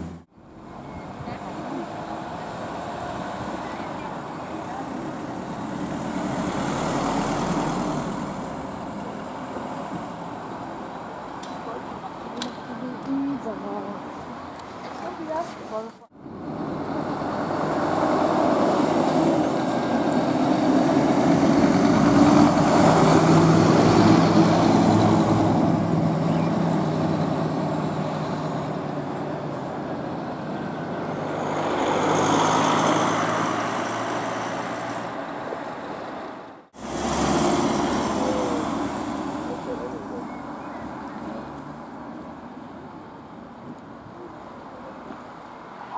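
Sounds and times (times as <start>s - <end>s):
truck diesel engine passing: 0.0s - 14.0s, 16.1s - 43.3s.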